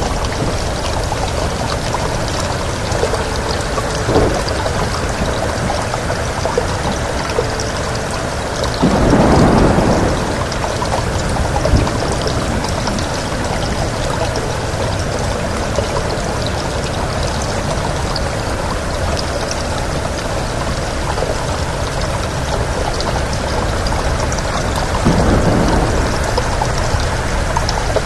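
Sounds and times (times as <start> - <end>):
steady rain with wind: 0.0 - 28.0.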